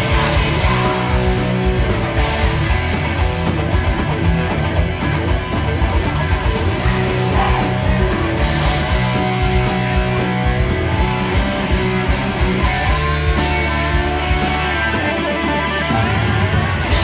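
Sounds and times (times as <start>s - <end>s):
drums: 0.0s - 17.0s
electric guitars: 0.0s - 17.0s.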